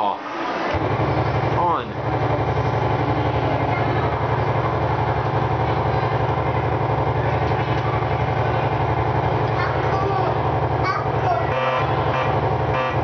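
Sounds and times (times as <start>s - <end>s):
boat engine idling: 0.7s - 13.0s.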